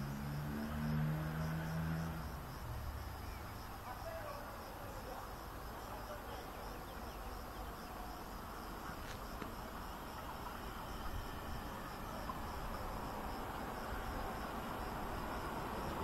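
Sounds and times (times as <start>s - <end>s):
insects chirping in pulsing trill: 0.0s - 16.0s.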